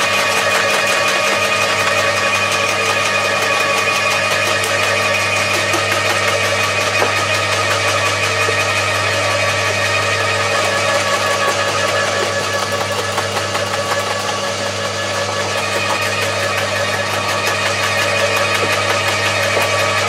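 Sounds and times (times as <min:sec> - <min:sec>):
garden shredder motor hum: 0:00.0 - 0:20.0.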